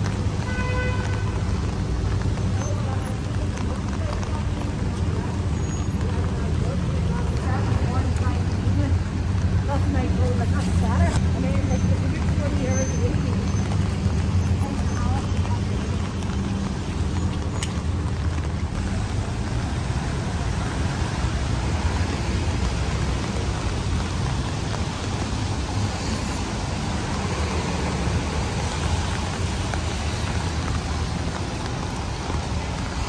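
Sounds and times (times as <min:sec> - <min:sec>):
rain on a street: 0:00.0 - 0:33.0.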